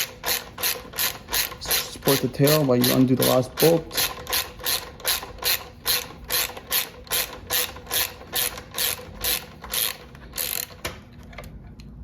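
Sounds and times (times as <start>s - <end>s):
ratchet wrench clicking: 0.0s - 10.9s.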